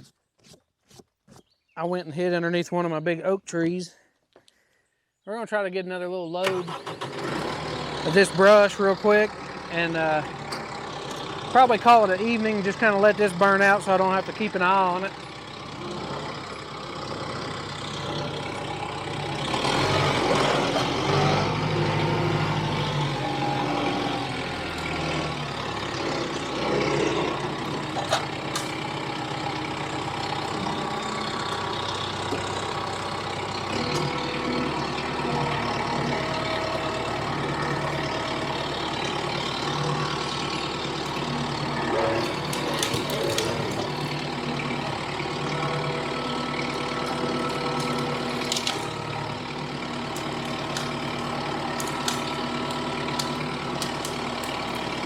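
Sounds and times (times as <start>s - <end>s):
tractor diesel engine running: 6.2s - 55.0s.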